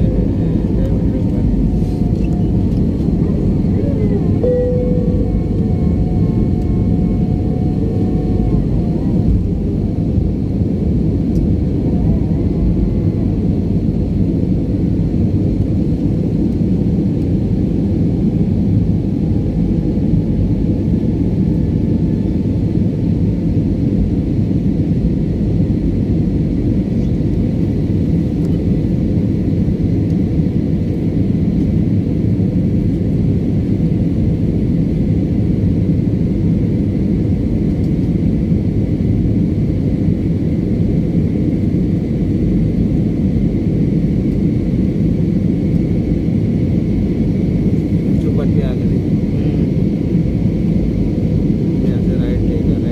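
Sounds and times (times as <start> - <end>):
jet engines roaring in cabin: 0.0 - 52.9.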